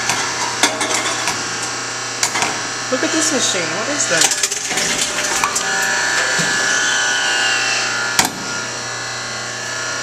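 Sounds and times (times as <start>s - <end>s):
vending machine motor whirring: 0.0s - 10.0s.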